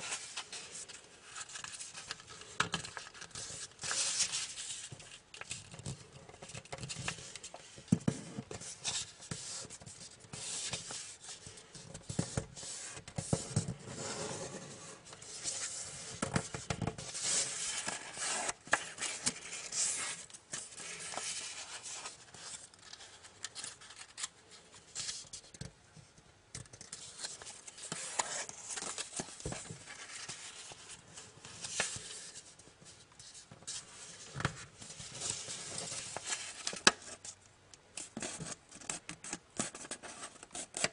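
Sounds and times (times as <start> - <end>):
paper rustling and crinkling: 0.0 - 25.7, 26.6 - 37.4.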